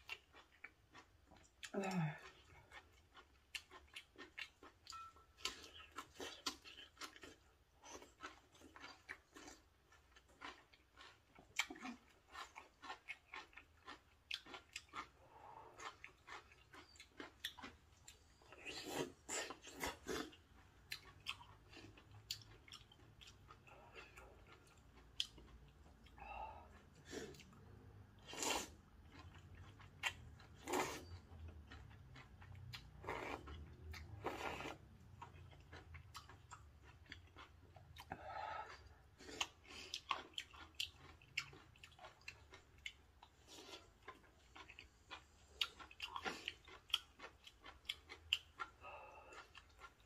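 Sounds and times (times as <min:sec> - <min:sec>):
person chewing noodles: 0:00.0 - 0:50.0.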